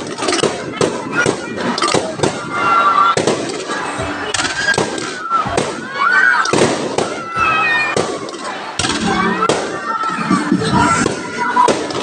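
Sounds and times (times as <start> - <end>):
crowd voices: 0.0 - 12.0
fireworks banging: 0.0 - 12.0
music: 0.3 - 12.0.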